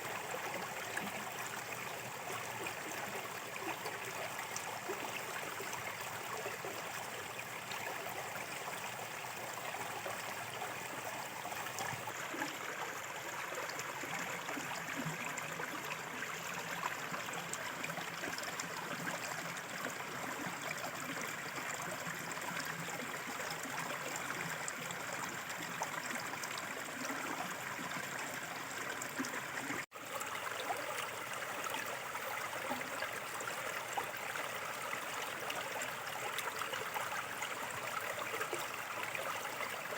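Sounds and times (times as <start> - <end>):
small river flowing: 0.0 - 39.9.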